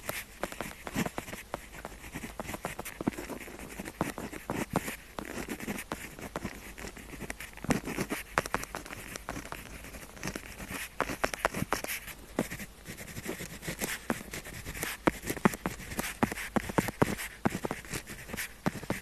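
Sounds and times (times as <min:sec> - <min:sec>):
pen scratching on paper: 0:00.0 - 0:19.0.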